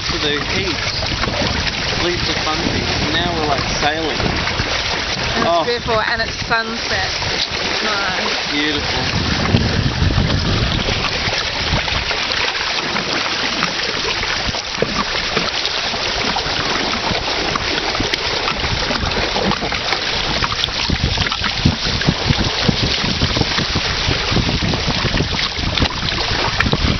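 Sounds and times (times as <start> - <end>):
gusty low rumbles: 0.0 - 26.9
water splashing along hull: 0.0 - 26.9
wind buffeting microphone: 0.0 - 26.9.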